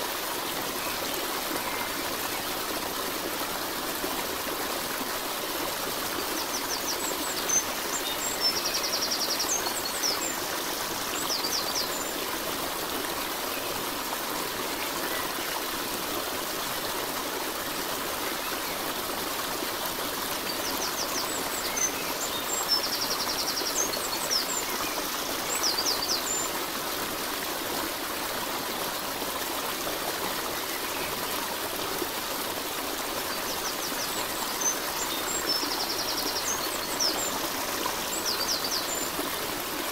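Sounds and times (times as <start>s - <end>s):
running stream: 0.0s - 39.9s.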